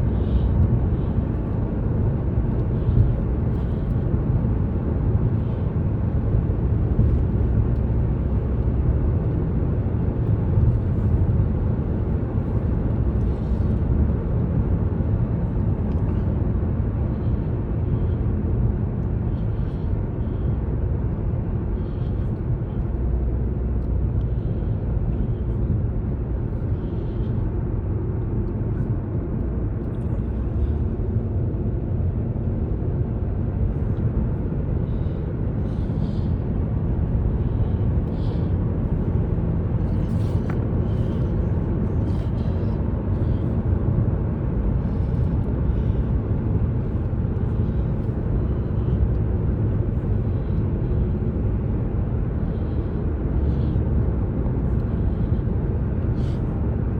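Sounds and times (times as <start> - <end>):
car road noise from inside: 0.0 - 56.9.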